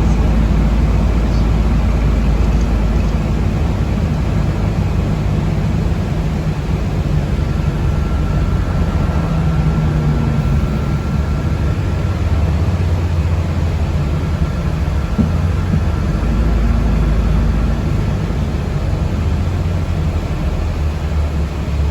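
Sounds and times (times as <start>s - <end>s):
faint thin whine: 0.0s - 19.9s
vehicle cabin rumble: 0.0s - 21.9s.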